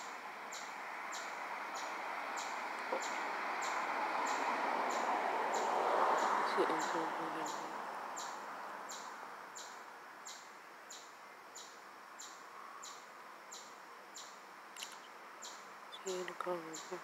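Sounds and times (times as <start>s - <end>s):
outdoor hiss: 0.0s - 17.0s.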